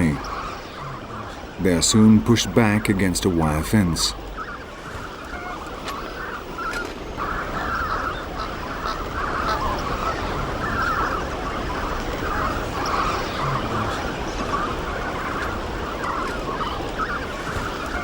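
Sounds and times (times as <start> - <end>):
flamingo chicks calling: 0.0 - 18.0.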